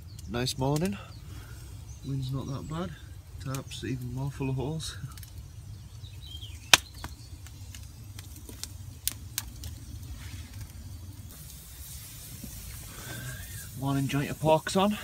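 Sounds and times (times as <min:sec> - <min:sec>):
campfire popping: 0:00.0 - 0:15.0.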